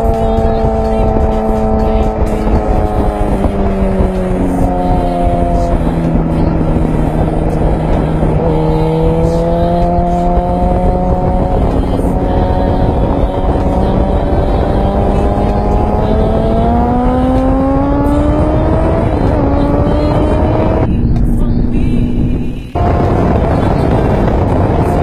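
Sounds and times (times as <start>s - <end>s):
motorcycle engine accelerating: 0.0s - 25.0s
wind rush over microphone: 0.0s - 25.0s.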